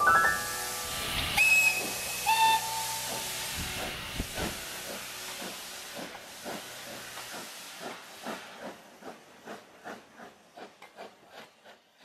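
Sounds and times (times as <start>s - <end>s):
steam hissing: 0.3s - 12.0s
steam locomotive chuffing: 0.6s - 12.0s.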